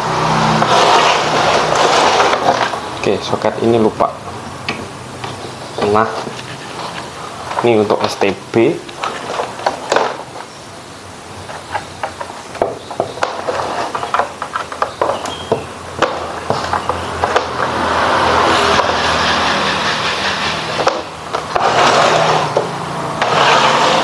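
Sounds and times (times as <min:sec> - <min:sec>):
loud steady rushing noise: 0:00.0 - 0:11.4, 0:15.6 - 0:24.0.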